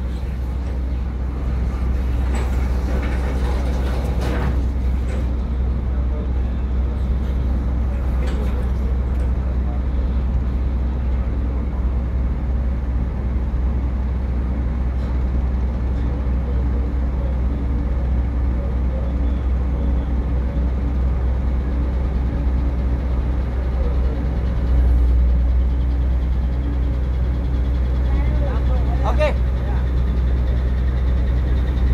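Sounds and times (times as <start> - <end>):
ship engine rumbling: 0.0 - 31.9.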